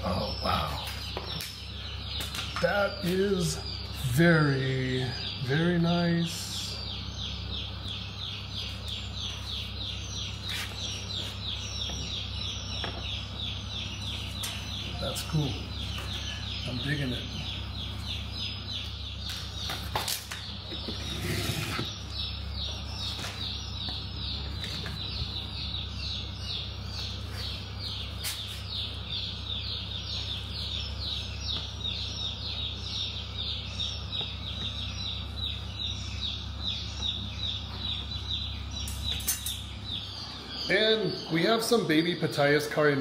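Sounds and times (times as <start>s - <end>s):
bird chirping: 0.0s - 43.0s.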